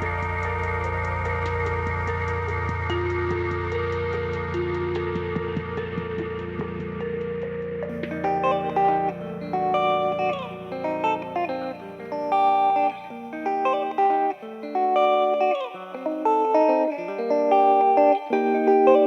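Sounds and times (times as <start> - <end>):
chillhop music with electric guitar: 0.0 - 19.0.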